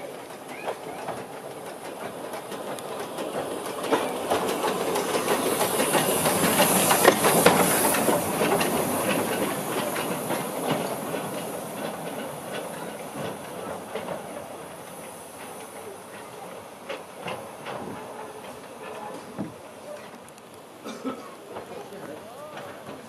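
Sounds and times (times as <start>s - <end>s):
locomotive clanks: 0.0s - 23.0s
steam locomotive hissing steam: 0.0s - 23.0s.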